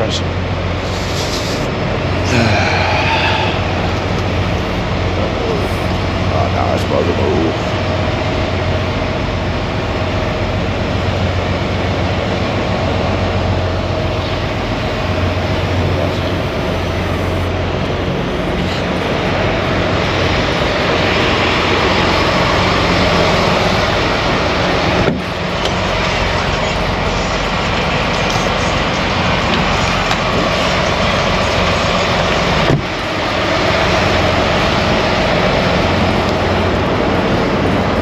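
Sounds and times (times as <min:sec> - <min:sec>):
truck diesel engine idling: 0:00.0 - 0:38.0.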